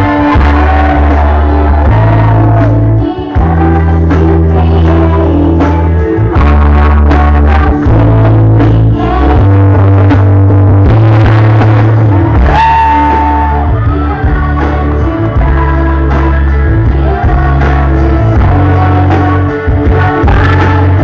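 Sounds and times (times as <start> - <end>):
heavy bass line: 0.0 - 21.0
person singing: 0.0 - 21.0
rock song over loudspeakers: 0.0 - 21.0.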